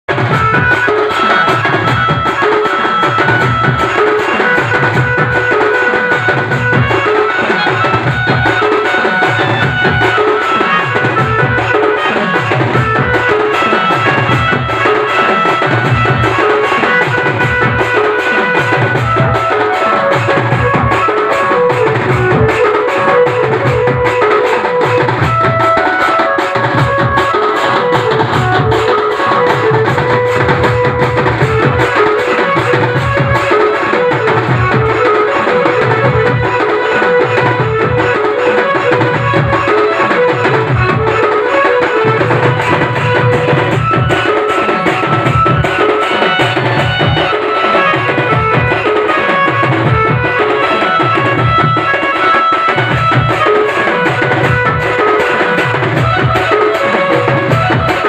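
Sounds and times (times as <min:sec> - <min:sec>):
band playing dance music: 0:00.1 - 0:58.0
deep drum beats: 0:00.1 - 0:58.0.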